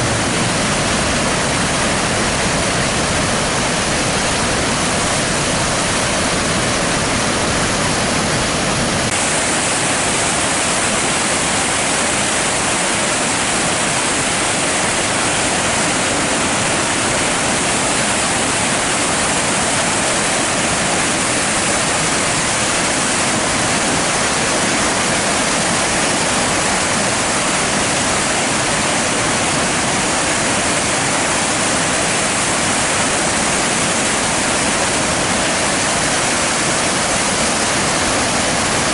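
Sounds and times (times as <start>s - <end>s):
whitewater rapids rushing: 0.0s - 38.9s.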